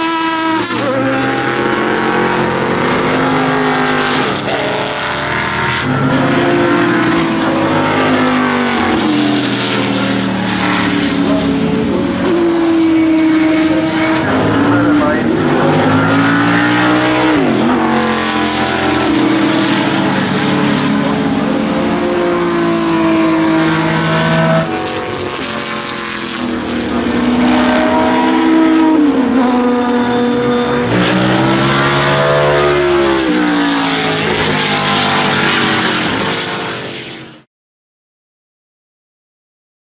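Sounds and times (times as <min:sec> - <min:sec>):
race car engines at high revs: 0:00.0 - 0:37.5.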